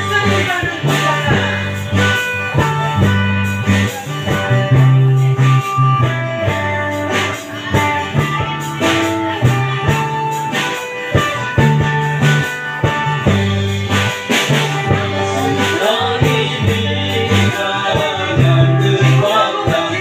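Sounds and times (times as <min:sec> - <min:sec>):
electric guitar: 0:00.0 - 0:20.0
low bass notes: 0:00.0 - 0:20.0
strummed acoustic guitar: 0:00.0 - 0:20.0.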